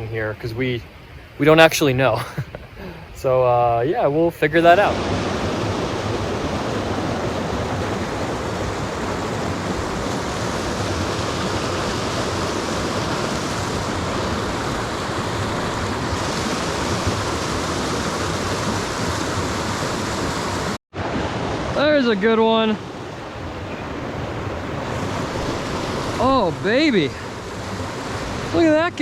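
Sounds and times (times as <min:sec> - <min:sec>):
flowing water rushing: 0:04.4 - 0:29.0.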